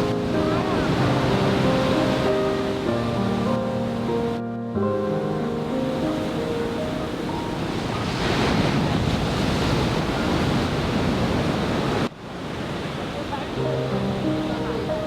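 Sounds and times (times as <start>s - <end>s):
ocean surf on sandy beach: 0.0s - 15.0s
wave breaking and washing in: 0.0s - 15.0s.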